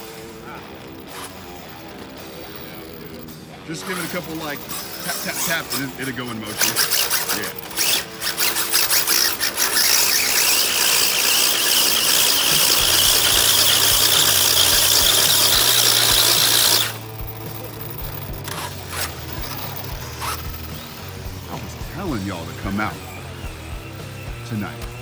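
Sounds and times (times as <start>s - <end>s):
electric motor whine: 0.0s - 25.0s
toy car throttle blips: 0.0s - 25.0s
tyres squealing: 0.0s - 25.0s.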